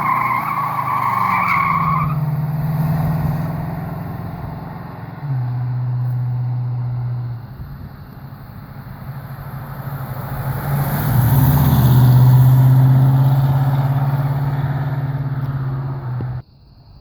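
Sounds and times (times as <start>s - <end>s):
car engine under way: 0.0s - 16.4s.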